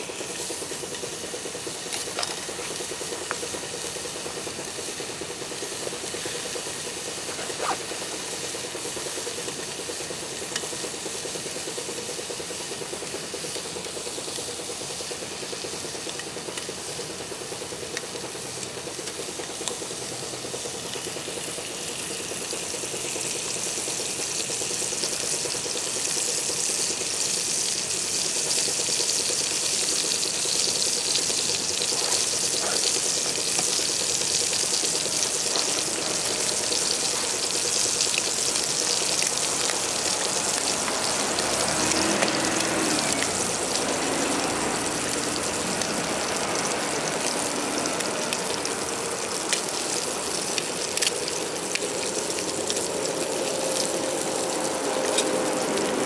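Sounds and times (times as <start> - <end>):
meat sizzling in a skillet: 0.0 - 56.0.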